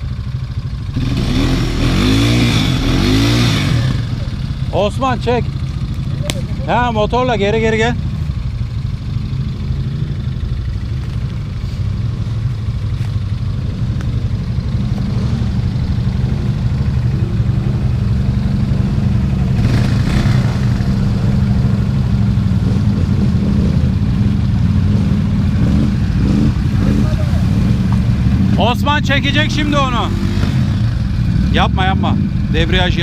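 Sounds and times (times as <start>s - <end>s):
quad bike engine running: 0.0s - 33.0s.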